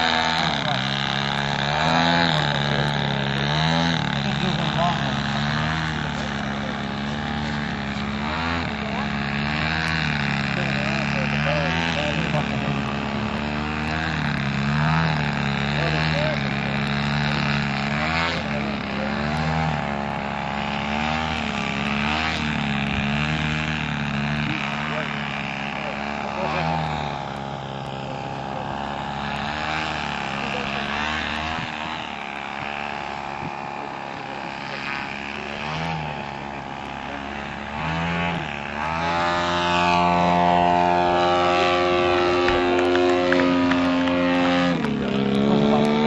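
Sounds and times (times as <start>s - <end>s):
model airplane engine running: 0.0s - 46.0s.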